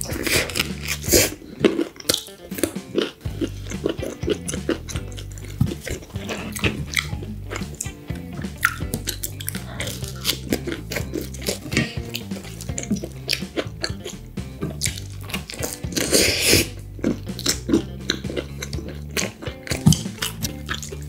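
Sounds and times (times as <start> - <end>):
background music: 0.0 - 21.0
chewing and wet mouth sounds: 0.0 - 21.0.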